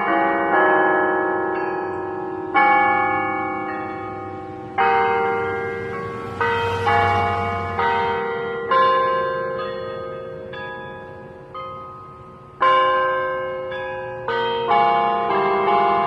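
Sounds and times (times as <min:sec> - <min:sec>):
bells playing slow melody: 0:00.0 - 0:16.0.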